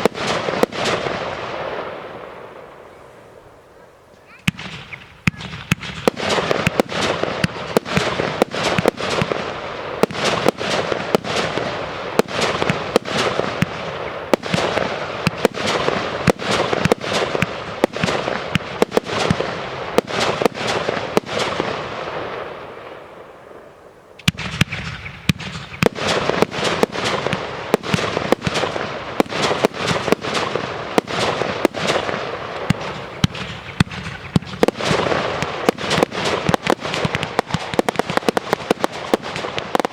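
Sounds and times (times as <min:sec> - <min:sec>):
fireworks bangs: 0:00.0 - 0:39.9
fireworks crackle: 0:00.0 - 0:39.9.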